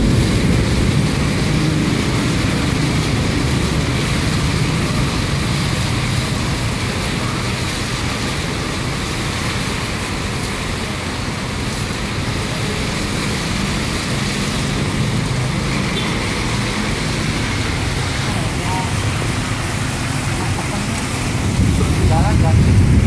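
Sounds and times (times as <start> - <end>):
cars and motorbikes passing: 0.0 - 23.0
low traffic rumble: 0.0 - 23.0
tyres hissing on wet road: 0.0 - 23.0.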